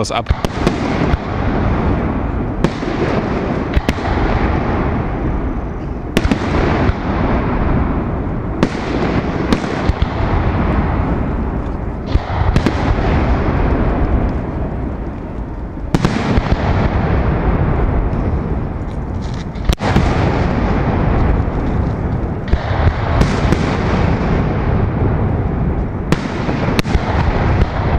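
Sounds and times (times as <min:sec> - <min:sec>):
firework bangs: 0:00.0 - 0:27.9
rumbling of fireworks: 0:00.0 - 0:27.9.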